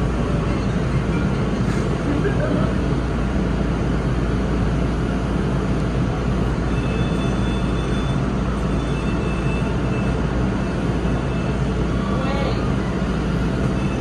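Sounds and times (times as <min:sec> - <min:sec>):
subway wheels rumbling on rails: 0:00.0 - 0:14.0.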